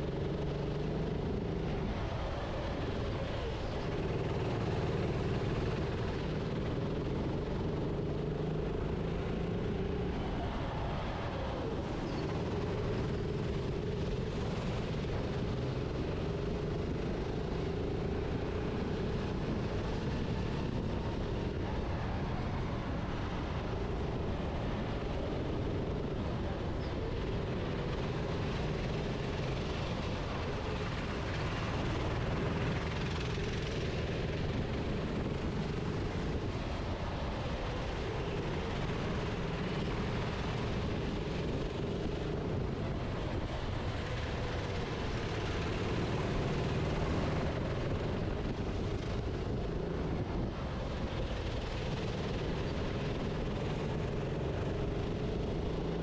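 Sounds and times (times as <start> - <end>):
racing kart engine: 0.0 - 56.0
steady noisy rush: 0.0 - 56.0.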